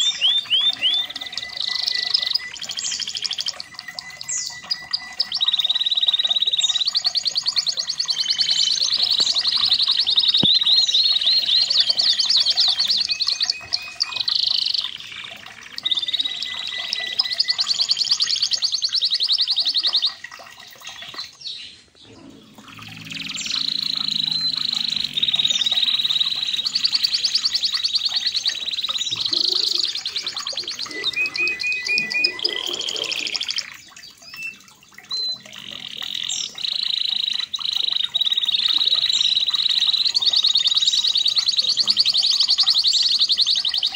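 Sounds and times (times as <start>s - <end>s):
canary singing trills: 0.0s - 20.2s, 21.0s - 43.9s.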